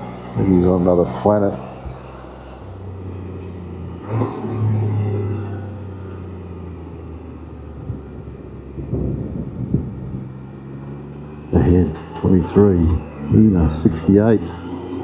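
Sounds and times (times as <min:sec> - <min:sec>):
three-wheeler engine running: 0:00.0 - 0:15.0.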